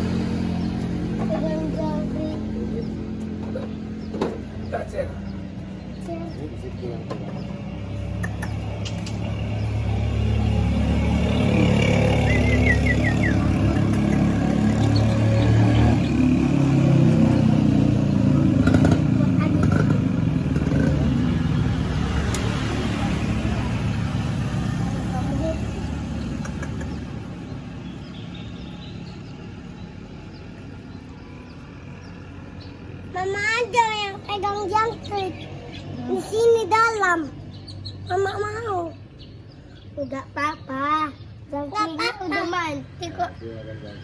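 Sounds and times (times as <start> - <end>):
motor vehicle engine running: 0.0 - 41.7
bird chirps: 0.1 - 21.1, 25.3 - 41.9.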